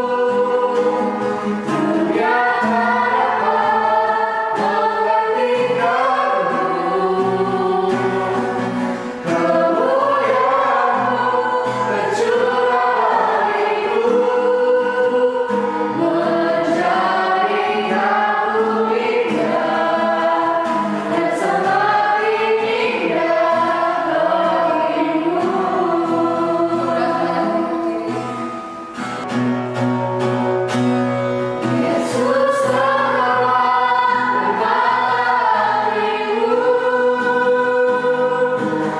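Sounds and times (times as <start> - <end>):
choir singing worship song: 0.0 - 29.3, 31.4 - 38.9.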